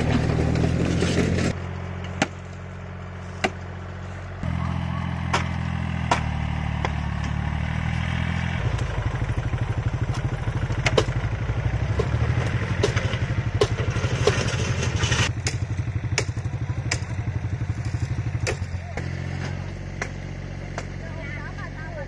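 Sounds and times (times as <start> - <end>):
diesel tractor engine chugging: 0.0 - 22.0.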